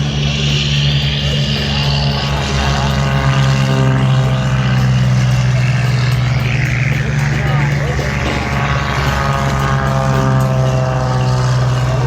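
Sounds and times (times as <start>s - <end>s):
propeller airplane engines droning: 0.0s - 12.0s.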